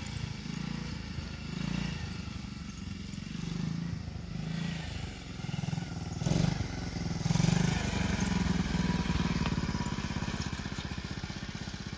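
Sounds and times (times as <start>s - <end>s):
small motorbike engine running: 0.0s - 11.9s.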